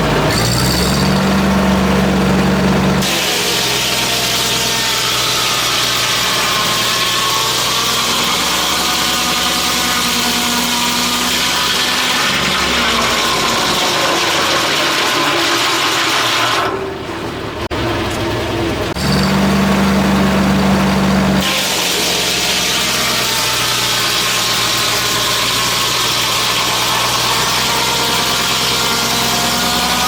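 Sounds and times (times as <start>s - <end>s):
sawmill running: 0.0s - 30.0s.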